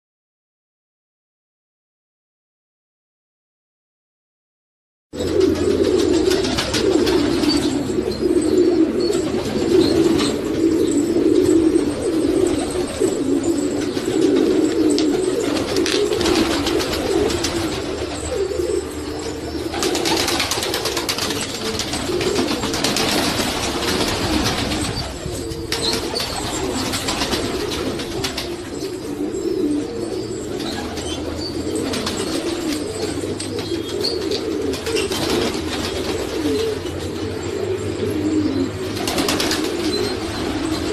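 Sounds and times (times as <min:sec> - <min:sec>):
pigeons cooing: 0:05.2 - 0:40.9.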